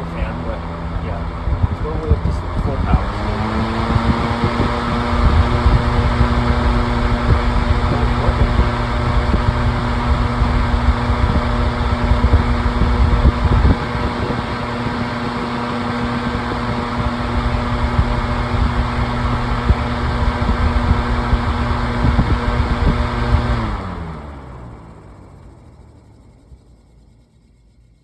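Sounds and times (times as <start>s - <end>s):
fan motor hum: 0.0s - 27.7s.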